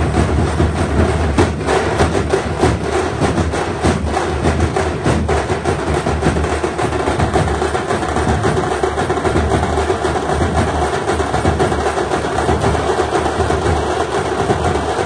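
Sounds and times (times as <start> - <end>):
drum troupe playing: 0.0 - 15.0.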